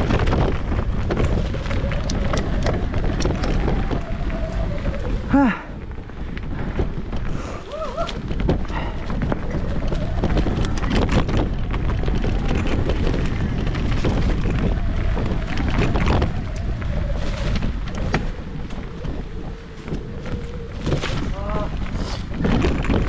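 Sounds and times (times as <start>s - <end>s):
bike clattering on rough trail: 0.0s - 23.0s
wind buffeting microphone: 0.0s - 23.0s.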